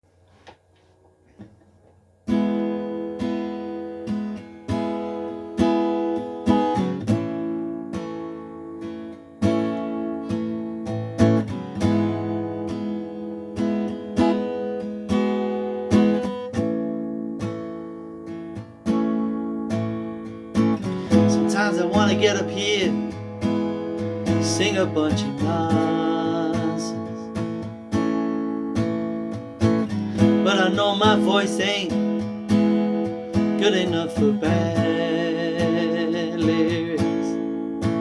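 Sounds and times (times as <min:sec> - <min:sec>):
acoustic guitar strumming chords: 0:00.3 - 0:38.0.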